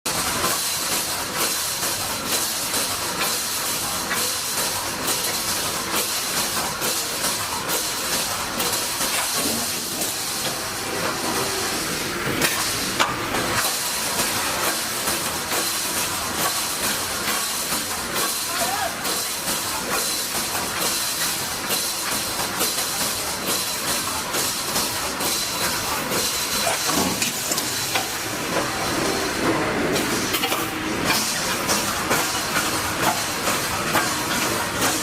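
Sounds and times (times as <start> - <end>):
sharp machine clack: 0.1 - 35.0
welding machine hiss: 0.1 - 35.0.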